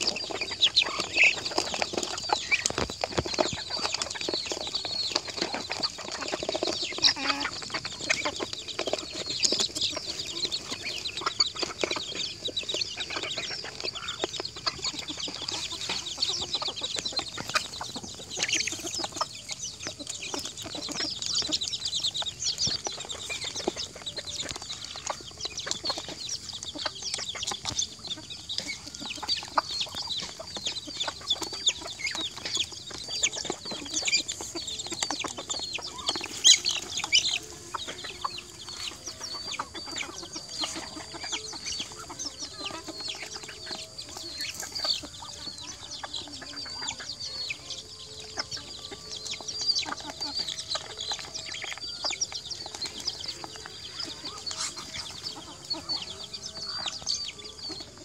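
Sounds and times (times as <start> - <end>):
bills pecking at food: 0.0 - 58.0
chickens clucking: 0.0 - 58.0
high-pitched bird calls: 0.0 - 58.0.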